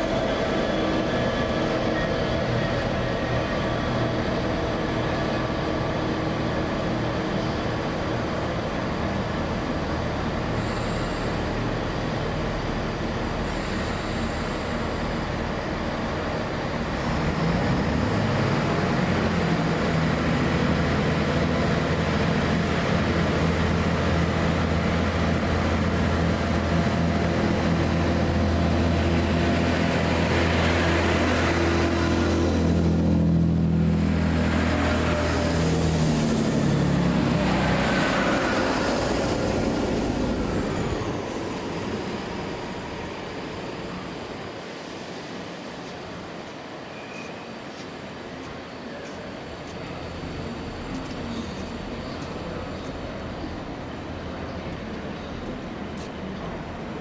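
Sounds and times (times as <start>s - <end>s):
locomotive diesel engine drone: 0.0s - 46.7s.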